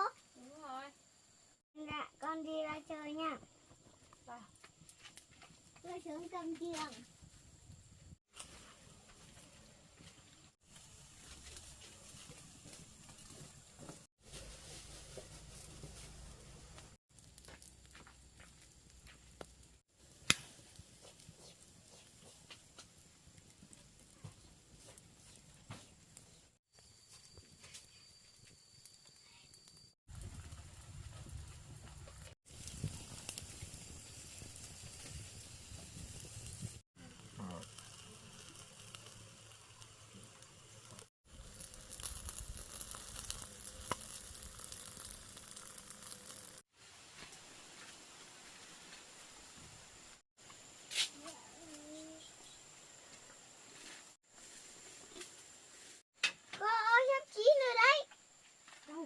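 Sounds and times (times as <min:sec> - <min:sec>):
wood fire crackling: 0:02.2 - 0:58.0.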